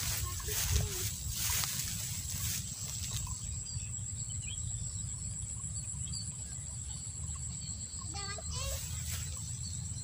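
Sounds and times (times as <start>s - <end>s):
faint bird chirps: 0.0s - 10.0s
insects high-pitched whine: 0.0s - 10.0s.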